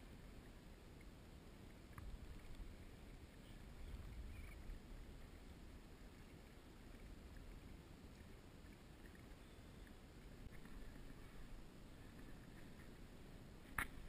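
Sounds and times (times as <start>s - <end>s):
low rumble of water and wind: 0.0s - 14.0s.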